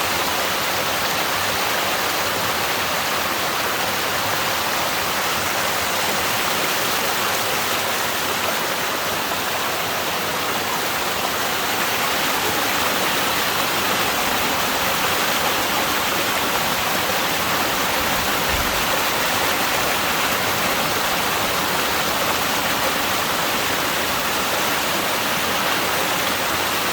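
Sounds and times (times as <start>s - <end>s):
stream rushing: 0.0s - 26.9s.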